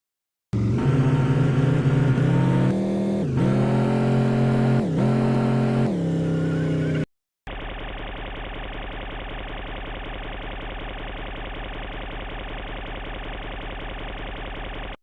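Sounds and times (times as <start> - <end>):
car engine running: 0.6 - 15.0.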